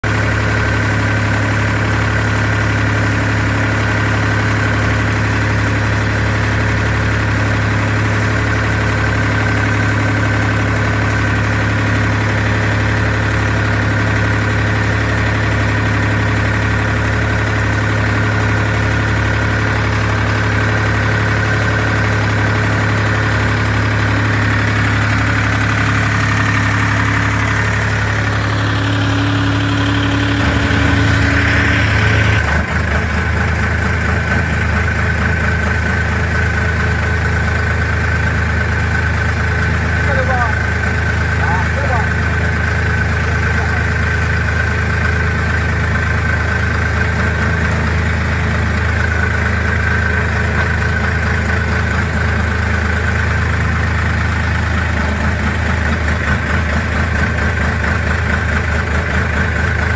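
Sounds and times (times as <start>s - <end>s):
harvester boat engine droning: 0.0s - 59.9s.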